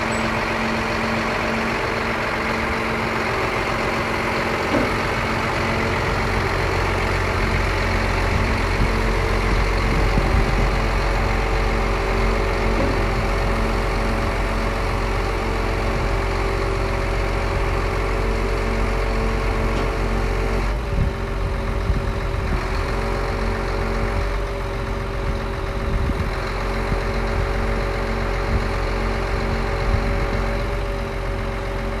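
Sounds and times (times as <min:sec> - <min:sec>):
diesel engine idling: 0:00.0 - 0:32.0
engine whine: 0:00.0 - 0:32.0.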